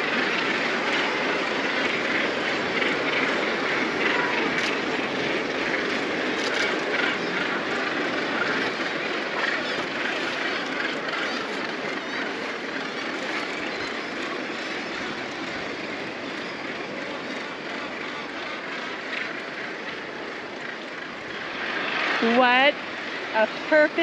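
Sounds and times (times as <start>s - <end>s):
seabird colony calling: 0.0s - 24.0s.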